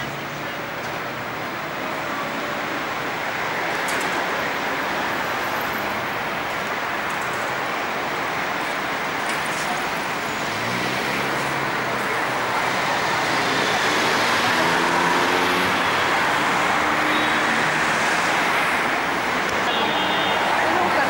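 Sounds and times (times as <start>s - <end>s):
cars passing: 0.0s - 21.0s
heavy vehicle engine: 0.0s - 21.0s.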